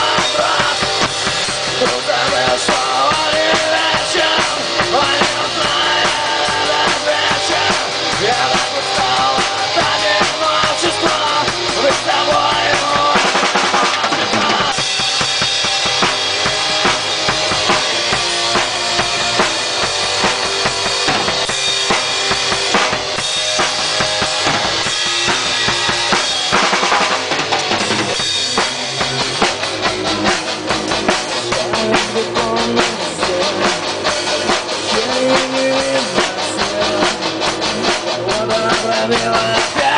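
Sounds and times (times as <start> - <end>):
drum kit: 0.0 - 39.9
rock band playing: 0.0 - 39.9.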